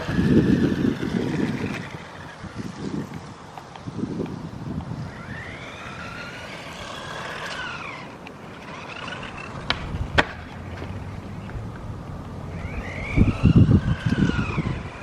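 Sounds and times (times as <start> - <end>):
rc truck motor whining: 0.0 - 15.0.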